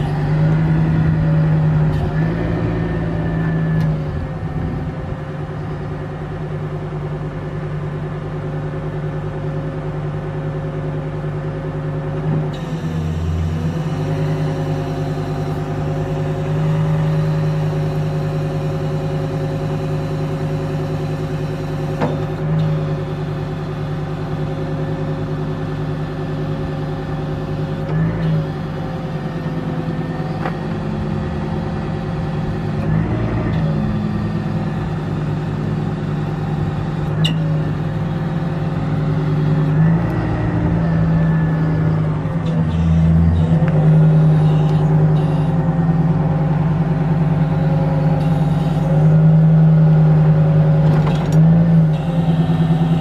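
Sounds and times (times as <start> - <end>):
truck engine humming: 0.0 - 53.0.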